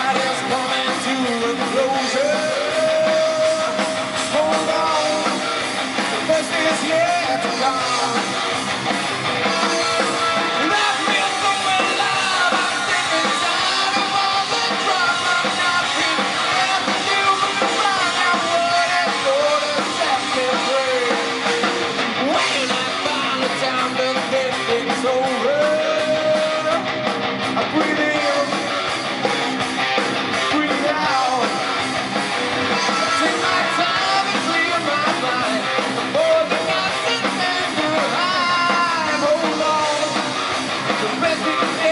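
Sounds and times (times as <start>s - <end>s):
person singing: 0.0s - 5.6s, 9.4s - 28.8s, 32.6s - 40.4s, 41.0s - 41.9s
electric guitar: 0.0s - 41.9s
rock band playing live: 0.0s - 41.9s.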